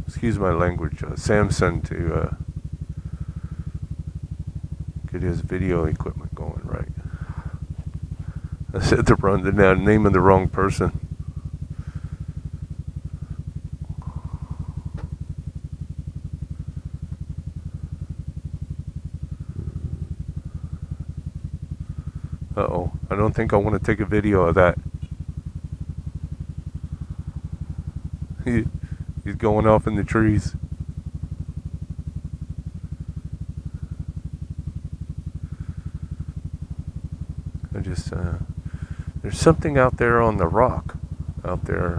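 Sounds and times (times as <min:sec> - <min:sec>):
scooter engine idling: 0:00.0 - 0:41.9.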